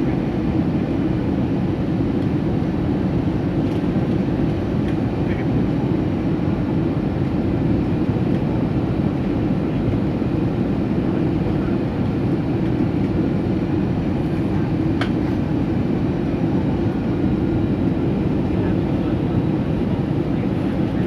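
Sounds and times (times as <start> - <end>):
jet engines and airflow: 0.0 - 21.0.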